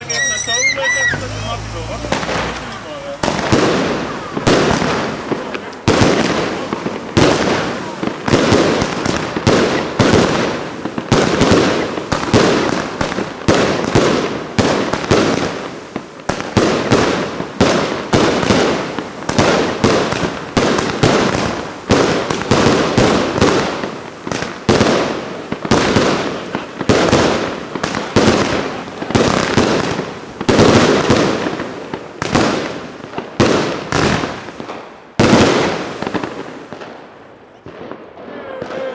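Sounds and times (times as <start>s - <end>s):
firework bangs: 0.0s - 38.9s.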